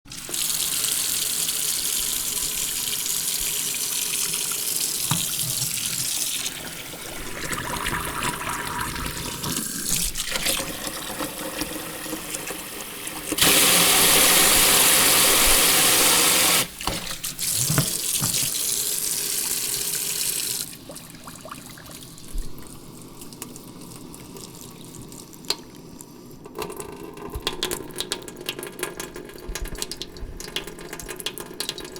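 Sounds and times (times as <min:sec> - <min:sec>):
tap water running into sink: 0:00.1 - 0:24.6, 0:26.4 - 0:31.9.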